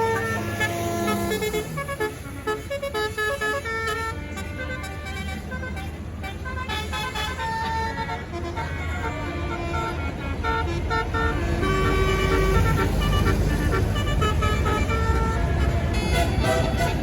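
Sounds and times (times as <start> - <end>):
bus engine running: 0.0 - 17.0
bus horn playing a tune: 0.0 - 17.0.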